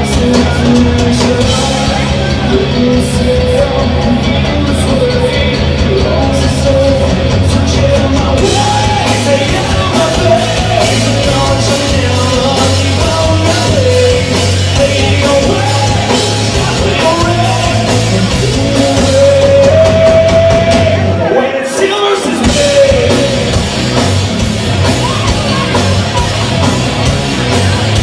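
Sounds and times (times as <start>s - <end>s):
bass guitar: 0.0s - 28.0s
drums: 0.0s - 28.0s
electric guitars: 0.0s - 28.0s.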